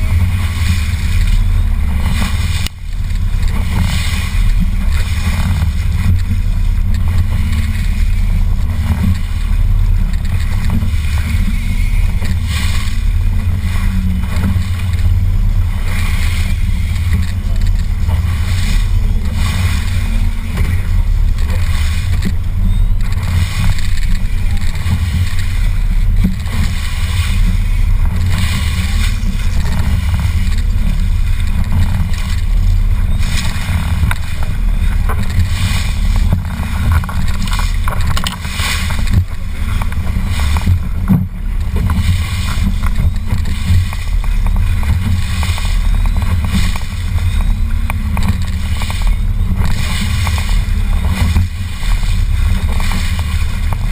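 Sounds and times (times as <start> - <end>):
boat engine rumble: 0.0 - 53.9
water noise: 0.0 - 53.9
wind noise: 0.0 - 53.9.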